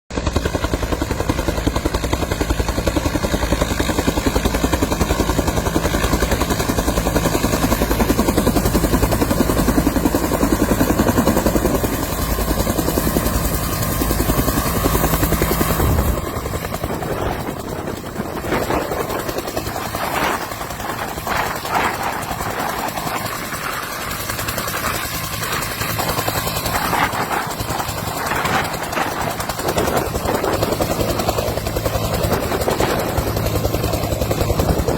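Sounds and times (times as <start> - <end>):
helicopter rotor and engine: 0.1 - 34.9
lighter thinner helicopter noise: 0.1 - 34.9.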